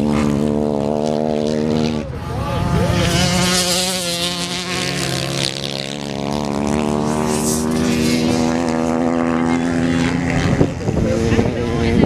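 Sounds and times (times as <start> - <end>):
racing motorcycle engines buzzing: 0.0 - 12.0.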